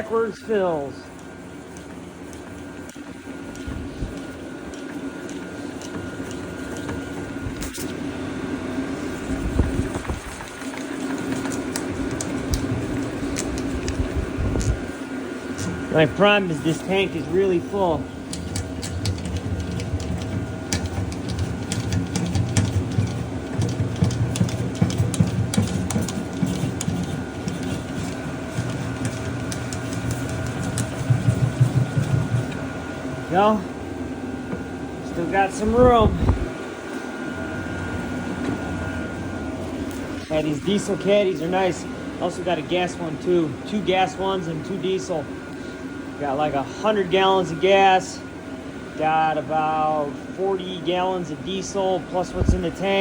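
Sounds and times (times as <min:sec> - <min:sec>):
fuel pump running: 0:00.0 - 0:53.0.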